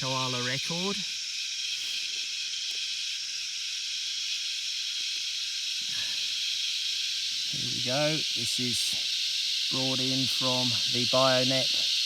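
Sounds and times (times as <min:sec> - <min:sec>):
cicadas shrill drone: 0:00.0 - 0:12.0.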